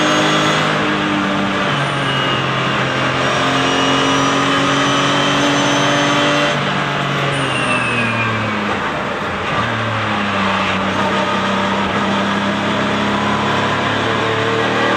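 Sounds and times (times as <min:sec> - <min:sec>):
race car engine at high revs: 0:00.0 - 0:14.9.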